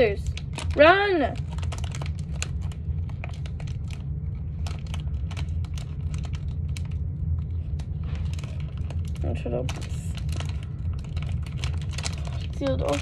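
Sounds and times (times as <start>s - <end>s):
fingers crackling plastic packet: 0.0s - 13.0s
steady low hum: 0.0s - 13.0s.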